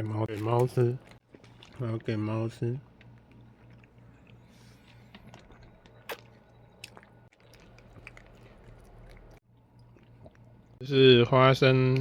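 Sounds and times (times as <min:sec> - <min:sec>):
steady low hum: 0:00.0 - 0:12.0
person chewing crunchy food: 0:00.2 - 0:10.8.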